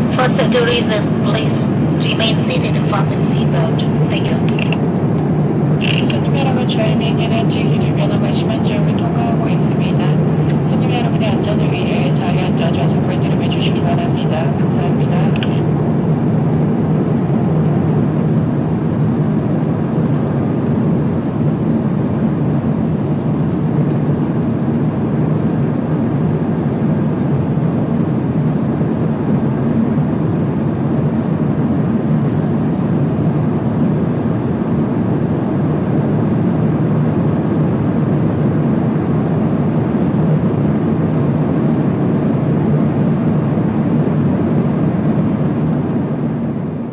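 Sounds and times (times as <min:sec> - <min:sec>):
airliner cabin drone: 0:00.0 - 0:46.9.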